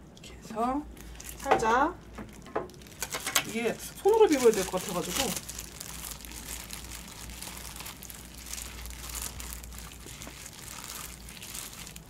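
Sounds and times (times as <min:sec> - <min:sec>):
thin plastic crinkling: 0:00.9 - 0:12.0.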